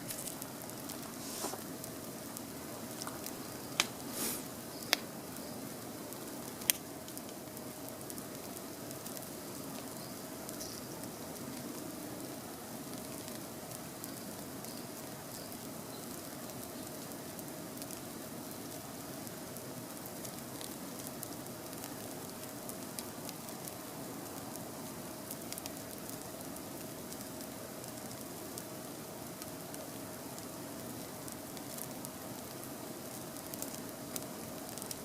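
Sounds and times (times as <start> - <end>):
campfire crackling and popping: 0.0 - 35.0
faint steady hum: 0.0 - 35.0.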